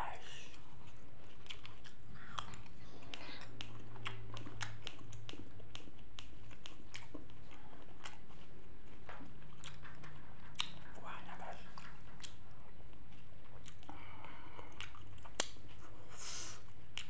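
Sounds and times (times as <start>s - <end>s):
low steady hum: 0.0s - 17.0s
wet chewing and mouth clicks: 0.1s - 17.0s.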